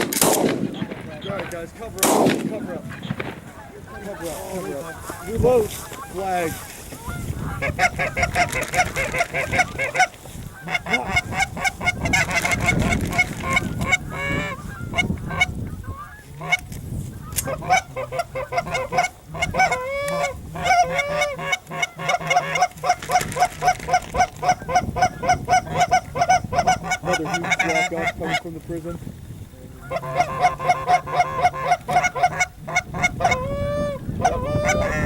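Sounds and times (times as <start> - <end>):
geese honking: 0.0 - 29.0, 29.6 - 35.0.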